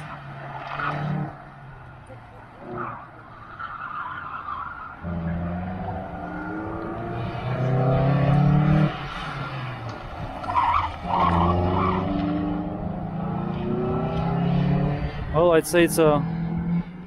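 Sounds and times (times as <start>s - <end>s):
car engine revving: 0.0s - 15.4s, 16.0s - 17.0s.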